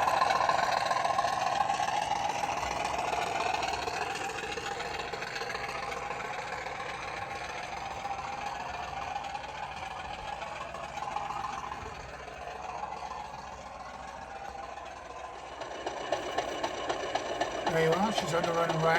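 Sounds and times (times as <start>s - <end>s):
diesel engine through small speaker: 0.0s - 18.9s.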